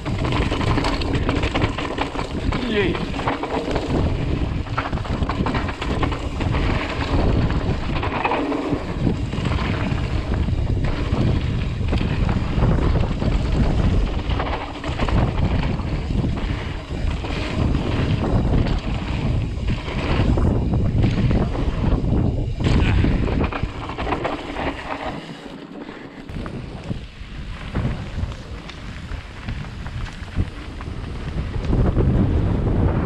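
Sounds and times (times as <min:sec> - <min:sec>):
wind buffeting microphone: 0:00.0 - 0:25.4, 0:26.0 - 0:33.0
bike knocks and rattles: 0:00.0 - 0:33.0
tyres rolling on dirt: 0:00.0 - 0:33.0.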